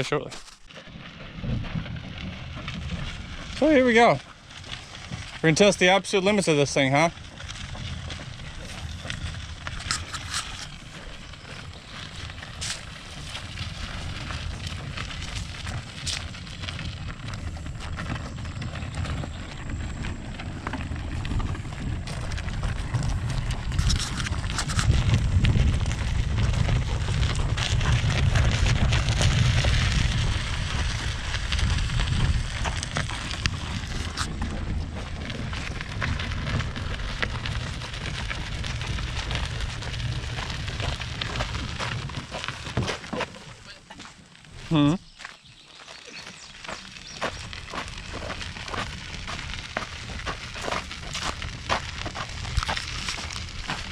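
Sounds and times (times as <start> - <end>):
cart wheels rolling over rocky ground: 0.0 - 53.9.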